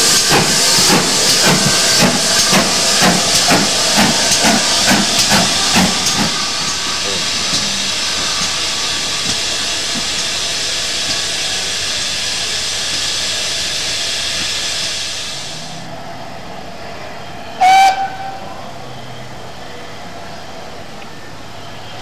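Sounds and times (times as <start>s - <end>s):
steam locomotive hissing: 0.0s - 18.9s.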